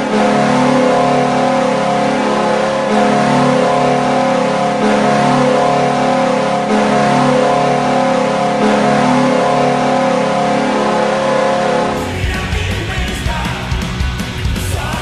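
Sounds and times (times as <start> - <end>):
goal horn blast: 0.0 - 12.3.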